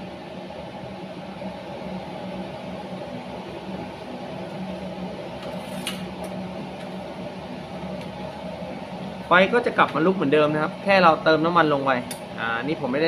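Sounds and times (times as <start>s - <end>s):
blower fan humming: 0.0s - 13.0s
oil flame burning: 0.0s - 13.0s.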